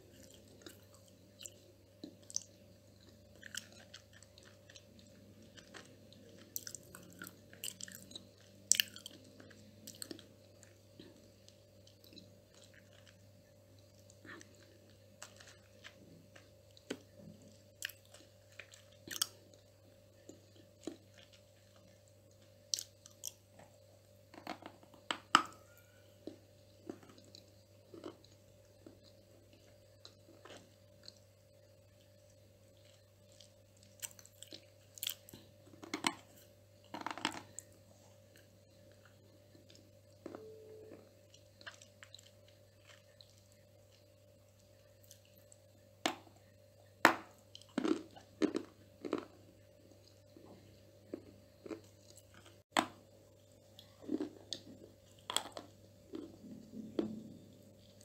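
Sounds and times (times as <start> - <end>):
crisp crunchy chewing: 0.0 - 23.4, 25.5 - 45.7, 47.4 - 52.9, 53.7 - 58.0
faint steady hum: 0.0 - 58.0.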